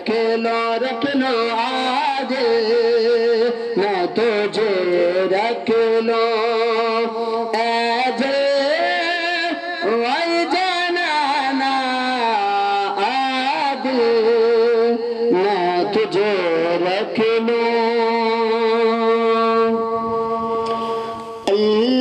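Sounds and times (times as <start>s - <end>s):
man chanting into a microphone: 0.0s - 22.0s.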